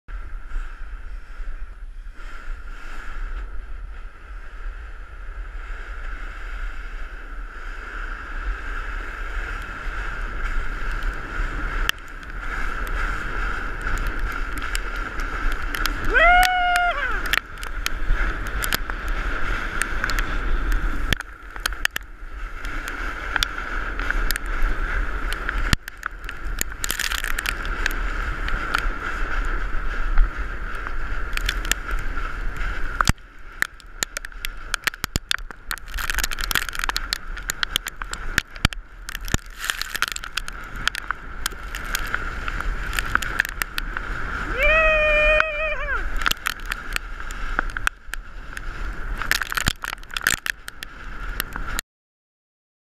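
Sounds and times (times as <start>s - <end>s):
wind buffeting microphone: 0.1s - 51.8s
board scraping down gravel: 0.5s - 51.8s.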